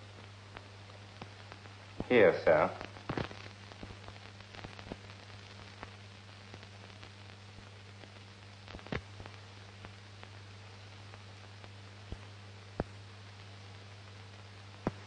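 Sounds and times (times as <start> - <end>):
clicks and crackles: 0.0 - 15.0
film soundtrack hiss: 0.0 - 15.0
mains hum: 0.0 - 15.0.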